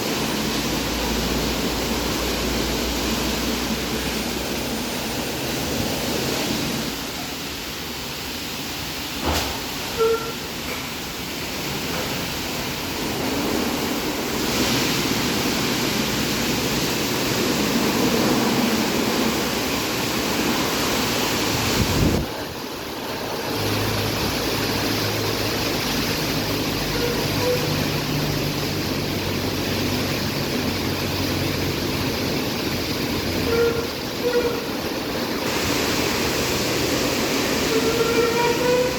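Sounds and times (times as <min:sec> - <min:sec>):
car wash water spray: 0:00.0 - 0:38.9.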